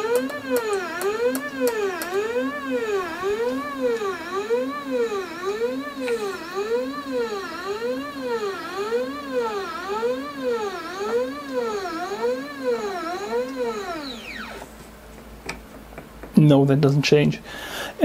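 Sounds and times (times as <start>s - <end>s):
stepper motor whining: 0.0s - 14.8s.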